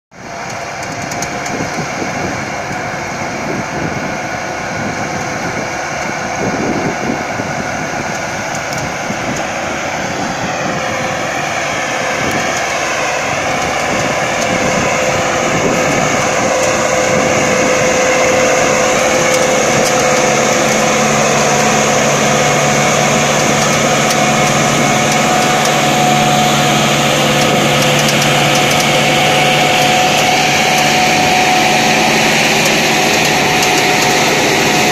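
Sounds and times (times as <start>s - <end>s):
tractor diesel engine under load: 0.1s - 34.9s
deeper hum: 0.2s - 34.9s.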